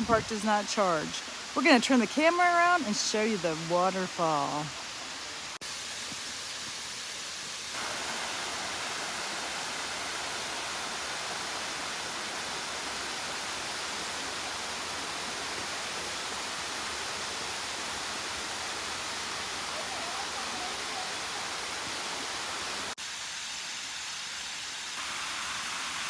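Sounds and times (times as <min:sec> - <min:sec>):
waterfall rushing: 0:00.0 - 0:23.0, 0:25.0 - 0:26.0.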